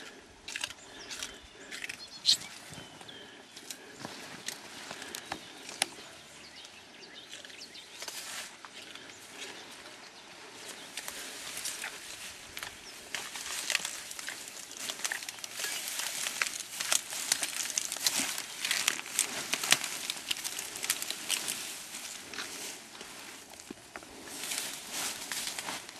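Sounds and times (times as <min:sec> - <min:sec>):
leafy plants rustling and snapping: 0:00.0 - 0:25.9.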